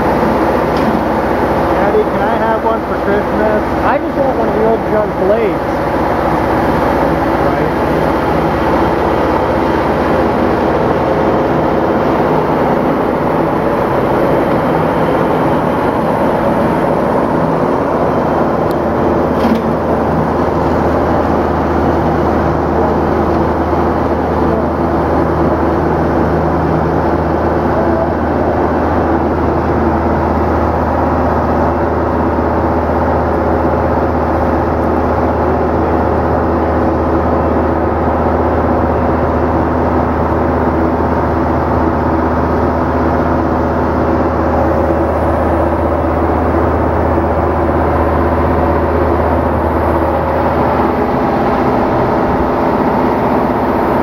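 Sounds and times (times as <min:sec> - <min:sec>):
concrete saw drone: 0:00.0 - 0:54.0.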